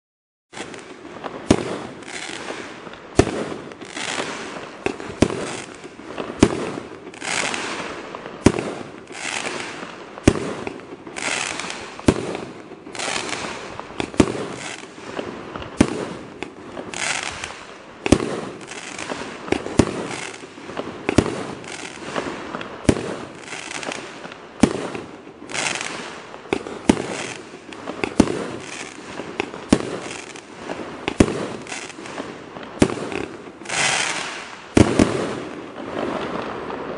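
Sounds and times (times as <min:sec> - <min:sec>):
firework launch shots: 0:00.5 - 0:36.8
firework bursts crackling: 0:00.5 - 0:36.9.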